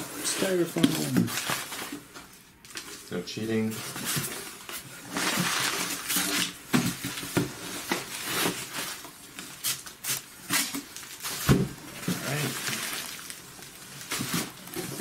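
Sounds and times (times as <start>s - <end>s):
bubble wrap crinkling: 0.0s - 15.0s
crumpled paper rustling: 0.0s - 15.0s.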